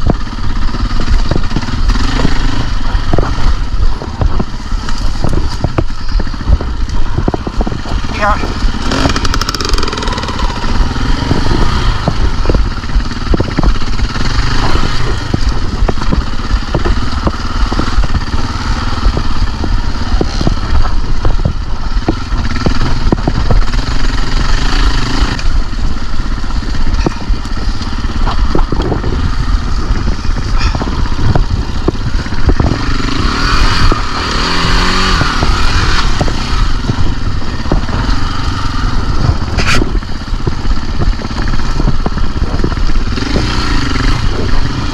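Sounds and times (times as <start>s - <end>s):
dirt bike engine running: 0.0s - 44.9s.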